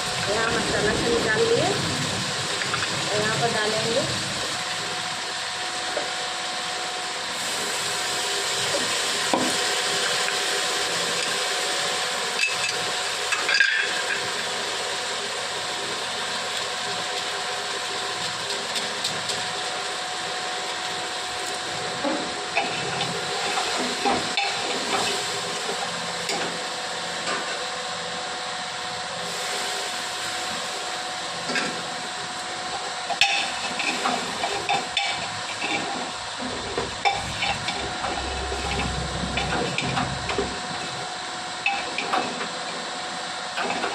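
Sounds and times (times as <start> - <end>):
vegetables sizzling in a pan: 0.0 - 27.0, 29.2 - 42.1.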